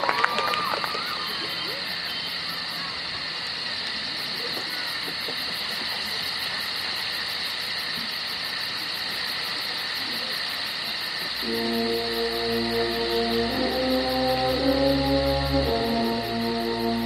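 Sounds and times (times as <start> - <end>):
faint crowd voices: 0.0 - 14.6
stadium ambience hiss: 0.0 - 17.0.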